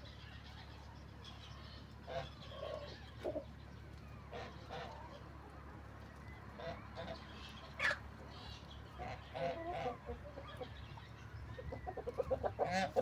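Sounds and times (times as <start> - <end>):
poultry clucking: 0.2 - 3.6, 4.3 - 13.0.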